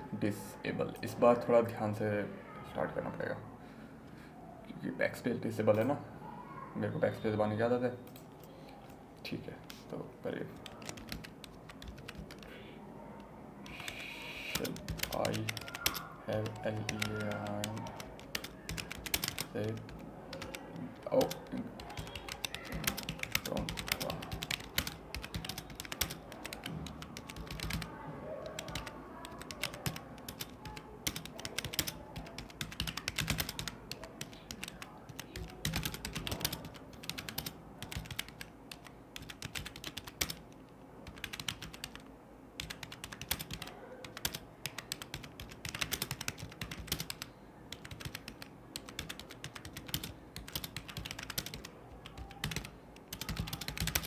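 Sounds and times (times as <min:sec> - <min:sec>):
fast keyboard typing: 0:08.0 - 0:54.0.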